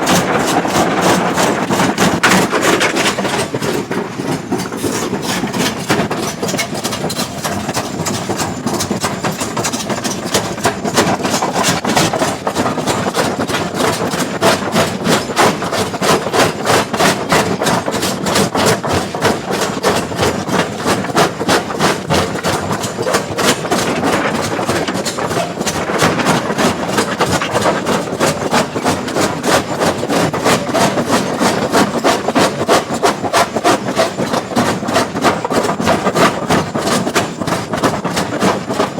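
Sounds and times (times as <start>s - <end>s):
hydraulic rock breaker hammering stone: 0.0s - 38.9s.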